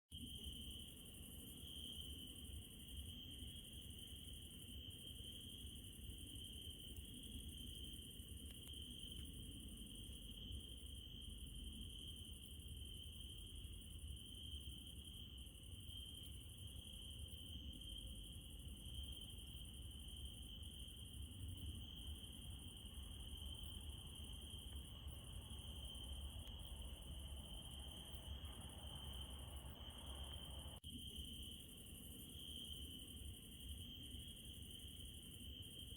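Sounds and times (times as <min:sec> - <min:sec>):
crickets chirping: 0:00.1 - 0:35.9.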